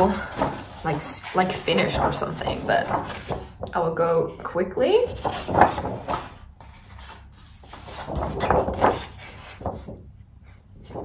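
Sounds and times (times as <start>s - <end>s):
paper sheets rustling and flapping: 0.0s - 11.0s.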